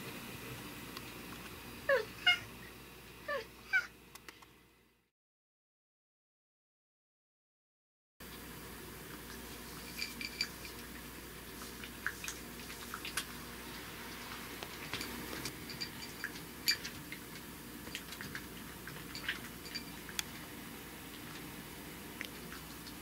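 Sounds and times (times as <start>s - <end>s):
low room hum: 0.0s - 5.1s, 8.2s - 23.0s.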